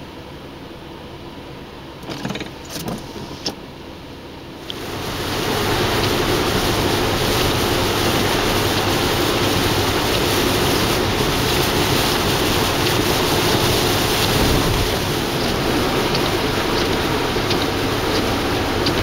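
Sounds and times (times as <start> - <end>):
rain and tyres on wet road: 0.0 - 19.0.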